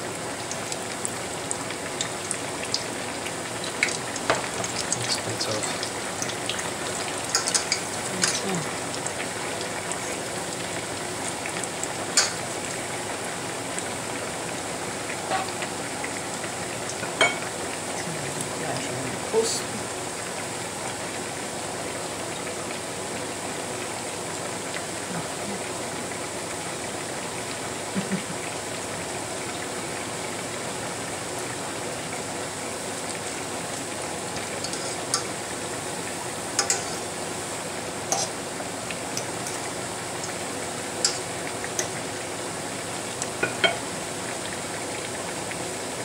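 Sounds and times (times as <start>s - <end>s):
food sizzling in fat: 0.0s - 46.0s.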